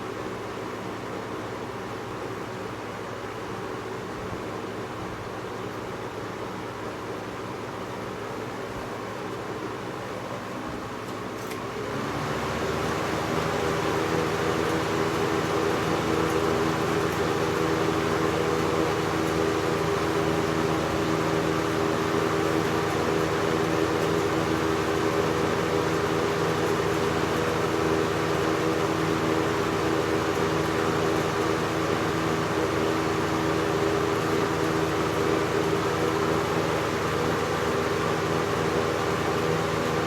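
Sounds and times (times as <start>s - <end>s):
box fan running: 0.0s - 40.0s.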